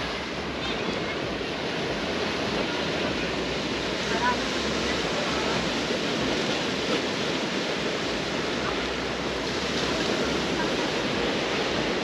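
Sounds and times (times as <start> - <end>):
faint voices of people: 0.0 - 6.8, 8.2 - 12.0
sea waves washing onto beach: 0.0 - 12.0.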